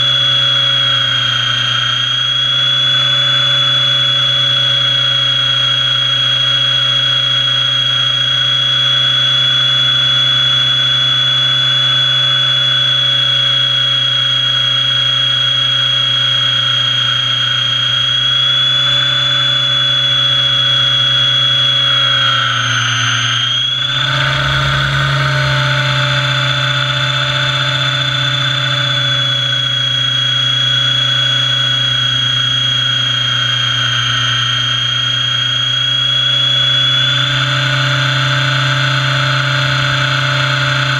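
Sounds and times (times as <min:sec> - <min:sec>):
model helicopter whine: 0:00.0 - 0:40.9
motor and rotor hum: 0:00.0 - 0:40.9.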